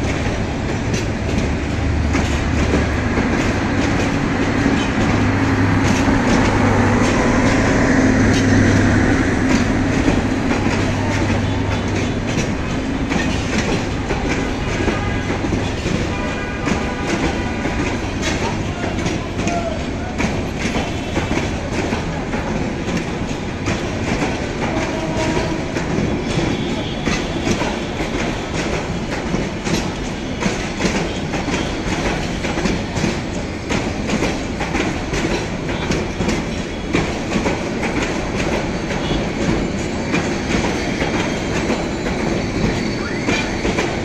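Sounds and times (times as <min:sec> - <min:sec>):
train coaches rumbling past: 0:00.0 - 0:44.0
wheels clicking over rail joints: 0:00.0 - 0:44.0.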